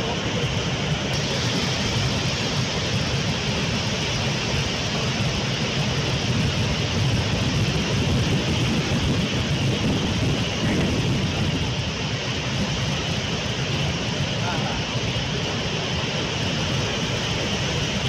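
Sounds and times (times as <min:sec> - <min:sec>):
deep rumble: 0:00.0 - 0:18.0
rushing falling water: 0:00.0 - 0:18.0.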